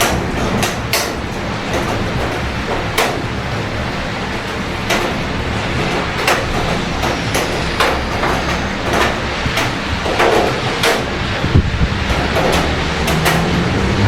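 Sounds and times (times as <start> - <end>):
low city hum: 0.0 - 14.0
steady rain: 0.0 - 14.0.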